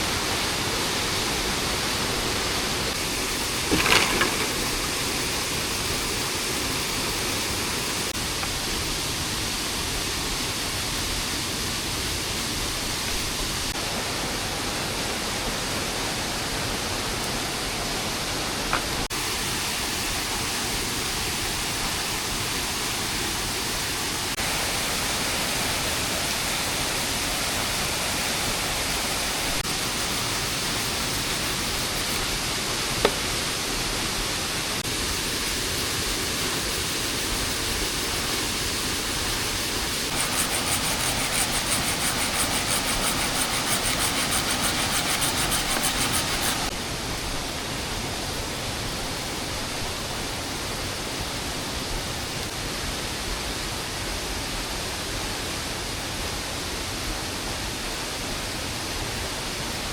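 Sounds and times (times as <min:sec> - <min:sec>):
rain falling in forest: 0:00.0 - 0:59.9.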